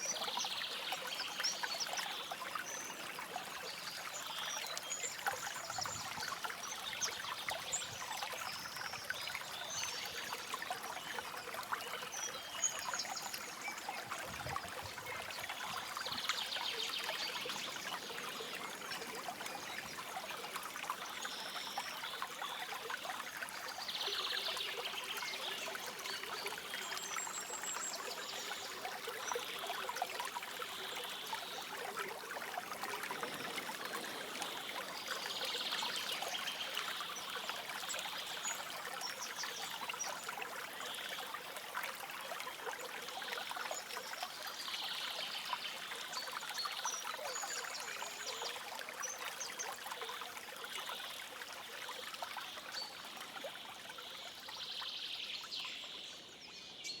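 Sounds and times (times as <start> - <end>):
stream babbling: 0.0 - 56.4.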